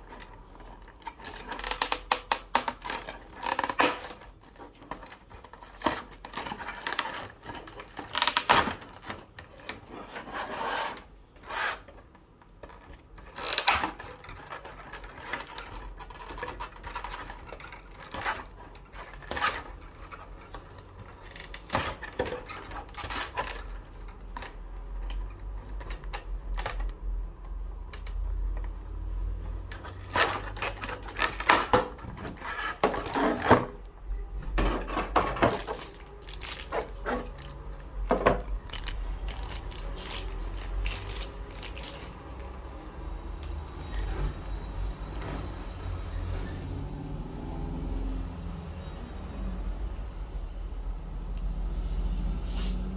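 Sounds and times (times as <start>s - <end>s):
cardboard and plastic packaging handled: 0.0s - 48.0s.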